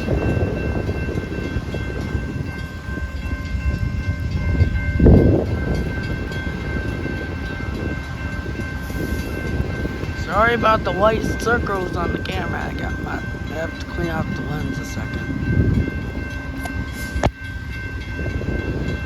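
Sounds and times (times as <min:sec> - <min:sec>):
diesel locomotive rumbling: 0:00.0 - 0:19.0
wind buffeting microphone: 0:00.0 - 0:19.0.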